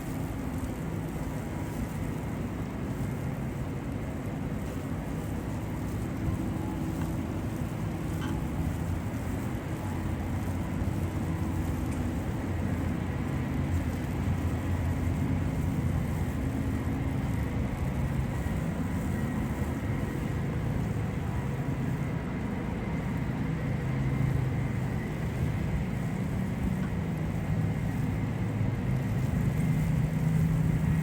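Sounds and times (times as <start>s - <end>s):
city street traffic rumble: 0.0s - 31.0s.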